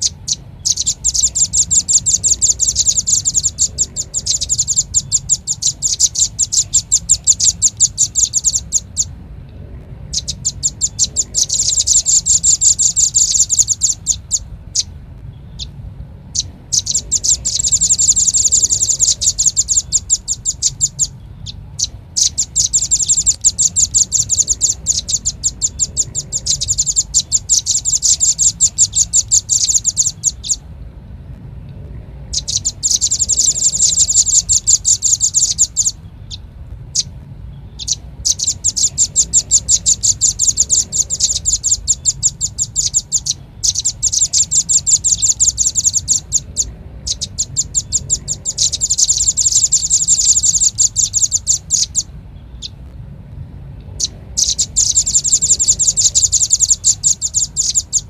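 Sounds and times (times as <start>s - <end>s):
bird chip notes: 0.0s - 30.7s, 31.5s - 52.8s, 53.8s - 58.0s
faint low hum: 0.0s - 58.0s.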